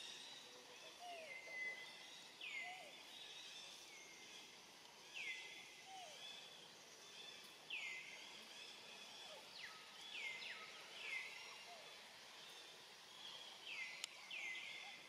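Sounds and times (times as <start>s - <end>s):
high background hiss: 0.0s - 15.0s.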